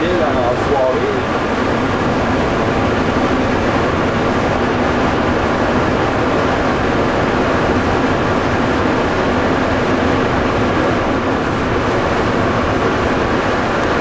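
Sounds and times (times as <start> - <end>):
metro train rumbling in tunnel: 0.0 - 14.0.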